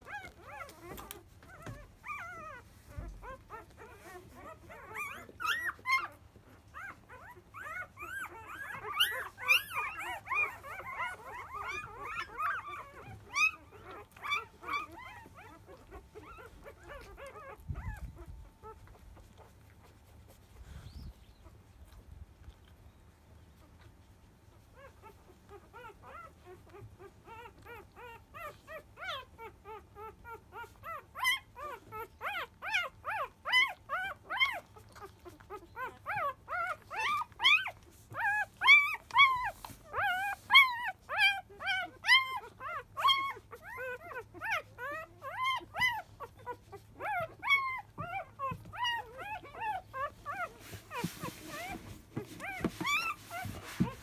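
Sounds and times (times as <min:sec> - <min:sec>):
puppies whimpering and squeaking: 0:00.0 - 0:54.0.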